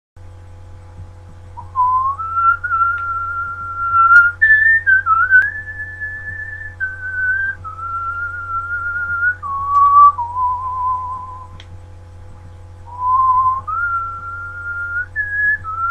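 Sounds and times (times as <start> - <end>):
low electrical hum: 0.2 - 15.9
person whistling a slow tune: 1.6 - 11.6, 12.9 - 15.9.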